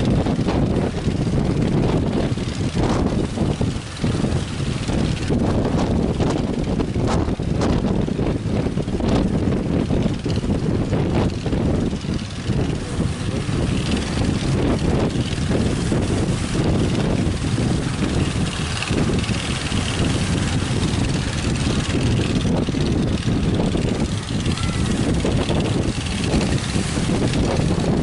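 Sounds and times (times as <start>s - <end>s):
surf breaking: 0.0s - 28.0s
wind rumbling on microphone: 0.0s - 28.0s.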